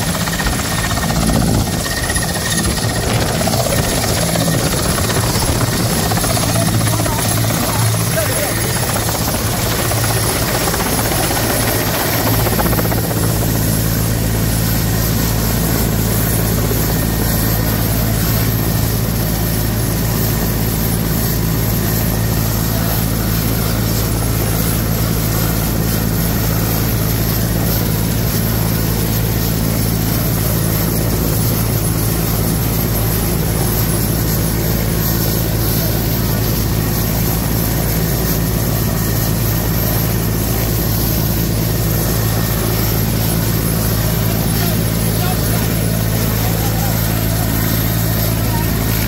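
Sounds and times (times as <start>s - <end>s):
helicopter rotors drone: 0.0s - 49.0s
high turbine whine: 0.0s - 49.0s.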